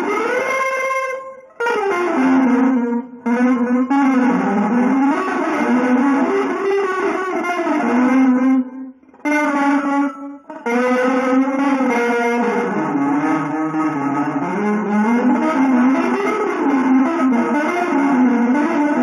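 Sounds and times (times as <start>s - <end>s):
electric guitar with effects: 0.0s - 19.0s.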